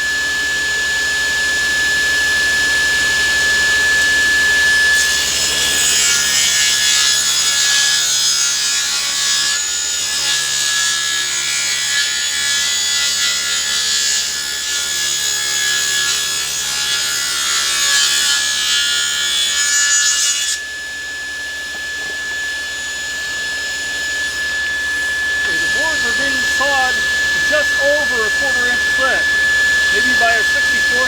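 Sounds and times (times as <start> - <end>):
saw running with steady whine: 0.0 - 31.0
table saw cutting board: 0.8 - 31.0.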